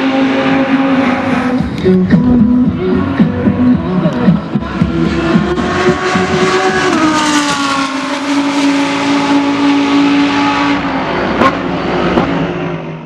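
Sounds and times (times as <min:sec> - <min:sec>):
race car engine at speed: 0:00.0 - 0:13.0.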